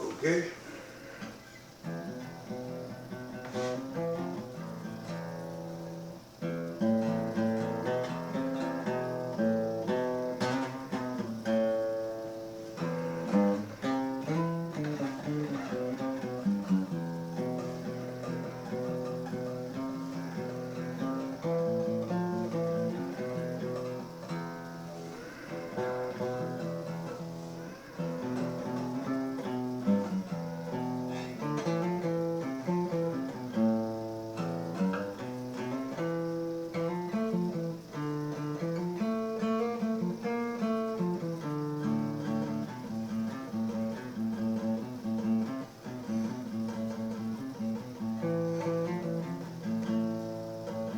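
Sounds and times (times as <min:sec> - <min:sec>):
guitar plucked and strummed: 0:01.2 - 0:50.9.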